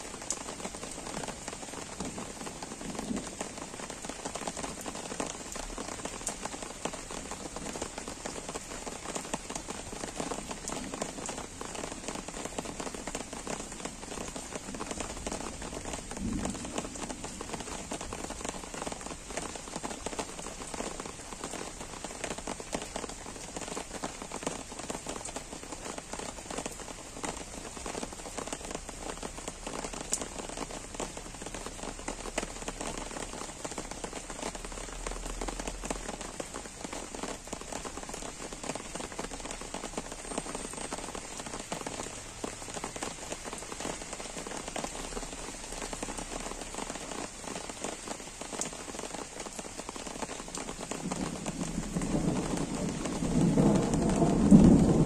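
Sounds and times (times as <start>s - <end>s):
gentle rain falling: 0.0s - 55.0s
raindrops ticking: 0.0s - 55.0s.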